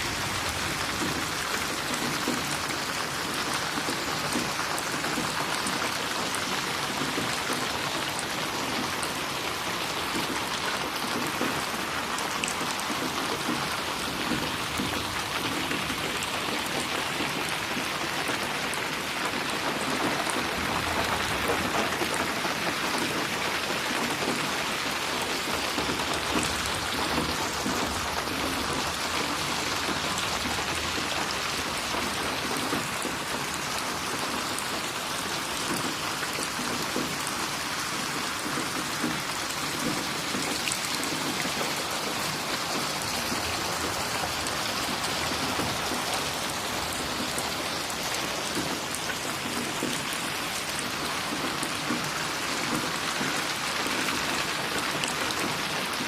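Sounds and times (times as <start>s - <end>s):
rain drops splashing: 0.0s - 56.0s.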